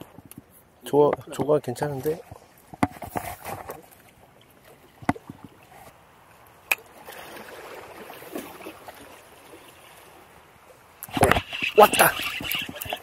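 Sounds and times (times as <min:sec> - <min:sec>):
sea water sloshing: 0:01.3 - 0:13.0.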